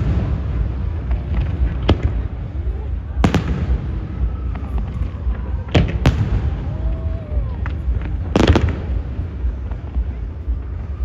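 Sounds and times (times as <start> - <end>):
faint fireworks pops: 0.0 - 11.0
steady low rumble: 0.0 - 11.0.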